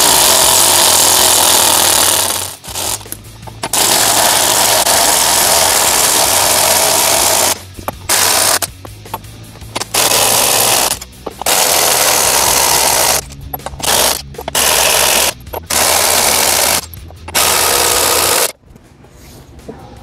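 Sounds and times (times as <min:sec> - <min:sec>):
impact wrench hammering lug nuts: 0:00.0 - 0:18.6.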